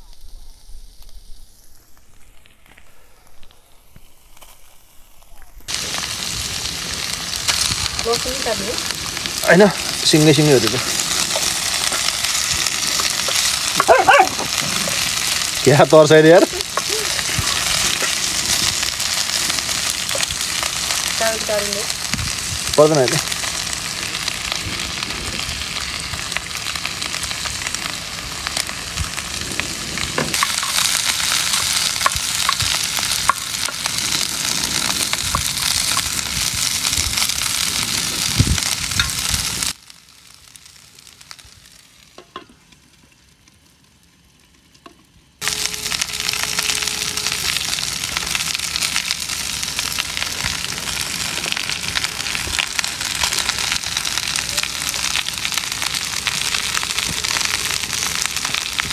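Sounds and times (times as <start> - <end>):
food sizzling in a wok: 0.0 - 2.8, 3.6 - 43.4, 45.4 - 58.9.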